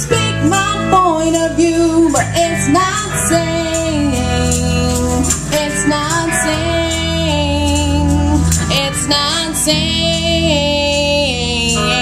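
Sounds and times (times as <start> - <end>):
live band playing: 0.0 - 12.0
woman singing: 0.0 - 12.0.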